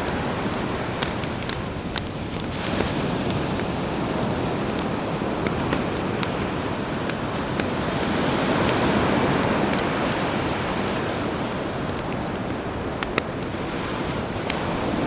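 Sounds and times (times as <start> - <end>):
campfire crackling and popping: 0.0 - 15.0
sea waves: 0.0 - 15.0.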